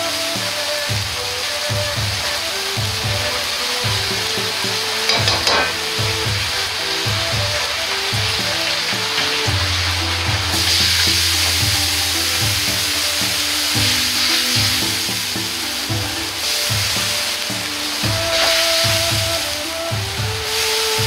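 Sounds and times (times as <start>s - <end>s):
sauce sizzling in a wok: 0.0s - 21.0s.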